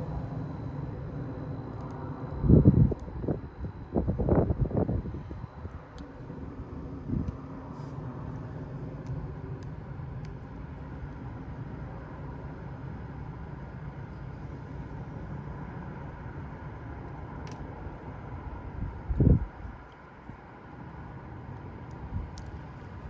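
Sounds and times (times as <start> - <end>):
airplane passing overhead: 0.0 - 23.0.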